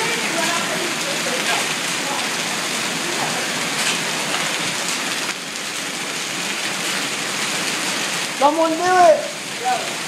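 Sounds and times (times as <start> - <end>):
hail hitting the ground: 0.0 - 10.0.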